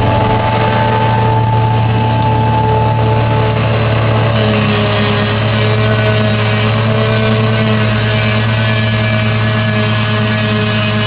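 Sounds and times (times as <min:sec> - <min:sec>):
vehicle engine running under load: 0:00.0 - 0:11.0.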